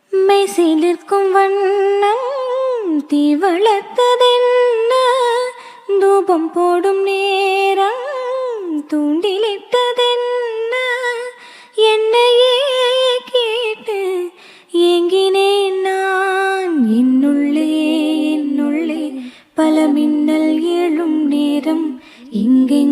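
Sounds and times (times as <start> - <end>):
woman singing wordless melody: 0.0 - 22.9.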